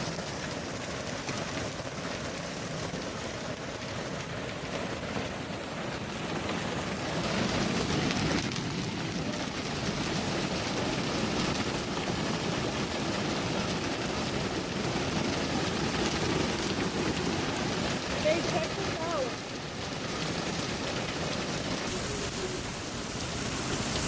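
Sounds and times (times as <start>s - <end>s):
hail clattering on ground: 0.0s - 24.0s.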